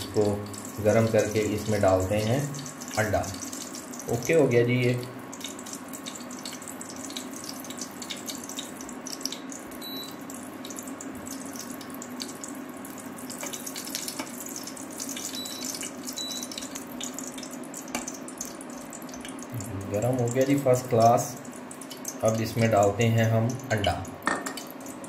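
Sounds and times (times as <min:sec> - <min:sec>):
ghee sizzling and crackling: 0:00.0 - 0:25.0
steady low hum: 0:00.0 - 0:25.0.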